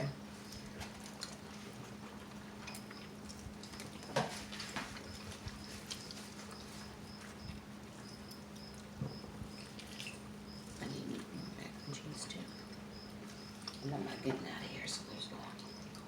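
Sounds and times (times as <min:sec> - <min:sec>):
steady low hum: 0:00.0 - 0:16.0
chewing: 0:00.4 - 0:11.3, 0:12.6 - 0:14.3, 0:15.5 - 0:16.0.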